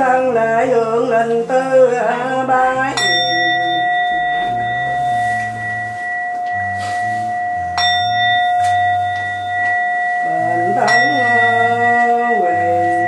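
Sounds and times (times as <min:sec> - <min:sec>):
low shifting tones: 0:00.0 - 0:13.0
bowl bell ringing: 0:02.3 - 0:13.0.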